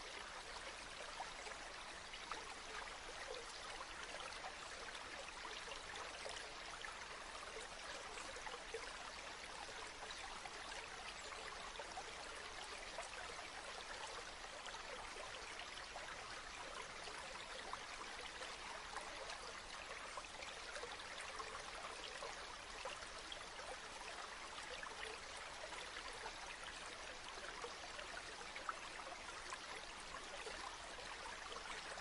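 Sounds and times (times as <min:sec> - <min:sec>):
stream flowing: 0:00.0 - 0:32.0.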